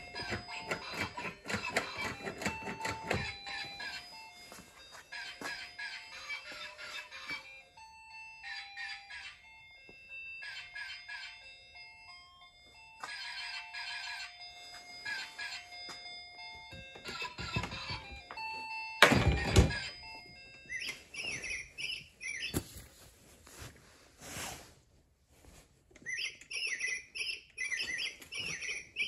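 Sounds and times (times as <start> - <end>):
electronic toy beeping melody: 0.0 - 22.6, 26.0 - 29.0.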